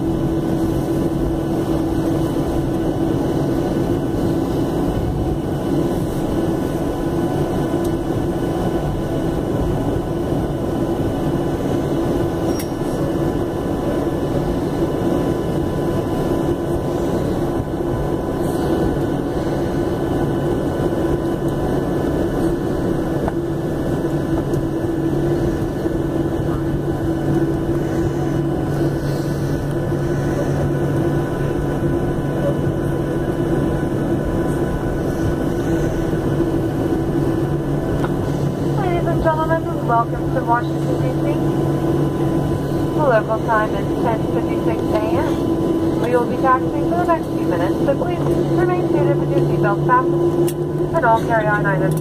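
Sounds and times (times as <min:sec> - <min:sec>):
airplane cabin noise: 0:00.0 - 0:52.0
low droning jet engine hums: 0:00.0 - 0:52.0.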